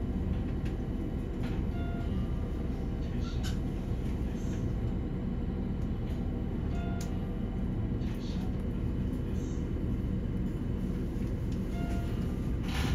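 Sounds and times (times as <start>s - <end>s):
train cabin low rumble: 0.0s - 12.9s.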